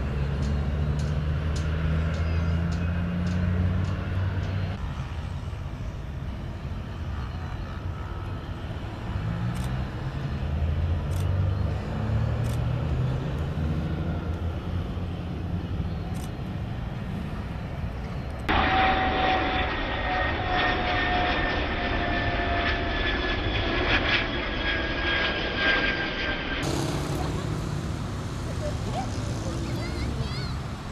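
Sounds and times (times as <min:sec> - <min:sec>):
jet engine whine: 0:00.0 - 0:30.9
airliner engine rumble: 0:04.3 - 0:30.9.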